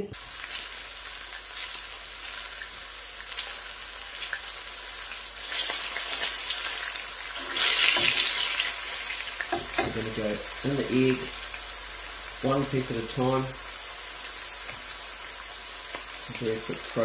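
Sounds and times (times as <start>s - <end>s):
fish frying in a pan: 0.2s - 17.0s.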